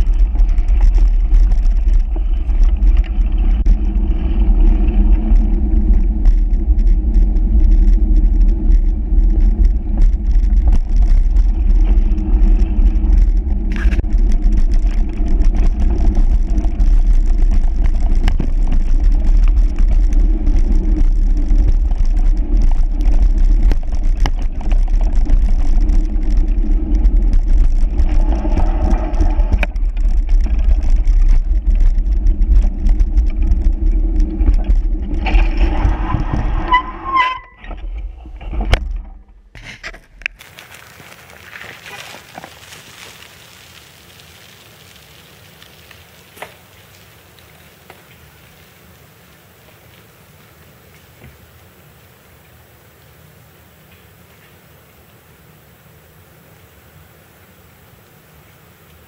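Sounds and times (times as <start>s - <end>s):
moving vehicle rumble: 0.0s - 52.8s.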